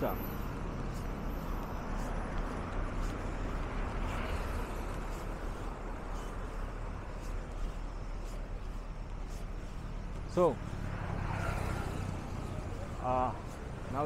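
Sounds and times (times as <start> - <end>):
road traffic: 0.0 - 14.0
motorcycle passing: 2.0 - 14.0.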